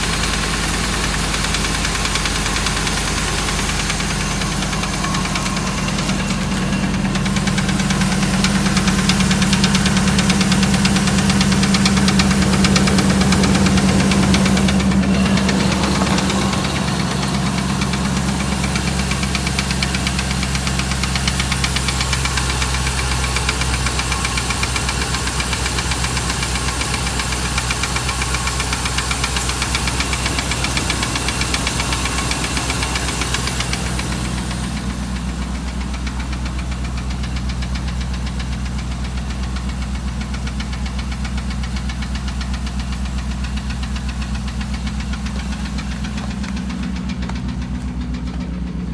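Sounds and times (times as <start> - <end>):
engine knocking: 0.0 - 48.9.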